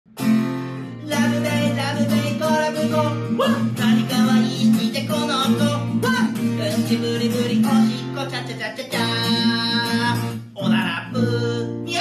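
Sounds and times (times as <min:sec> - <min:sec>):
acoustic guitar strumming: 0:00.1 - 0:12.0
person singing: 0:00.9 - 0:12.0.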